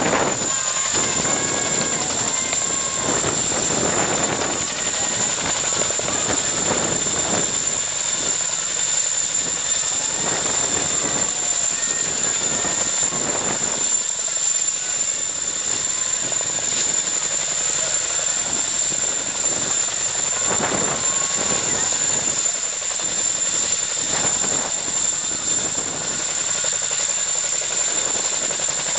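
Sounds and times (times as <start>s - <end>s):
helicopter rotors running: 0.0s - 28.9s
high engine whine: 0.0s - 28.9s.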